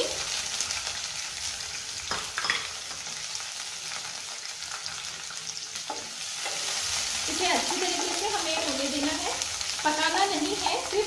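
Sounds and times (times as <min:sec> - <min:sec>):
oil sizzling in frying pan: 0:00.0 - 0:11.0.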